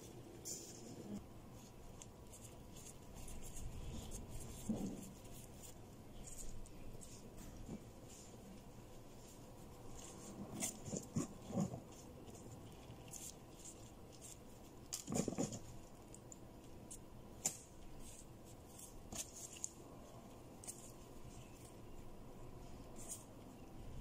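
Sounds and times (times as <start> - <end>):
plastic gloves rustling: 0.0 - 24.0.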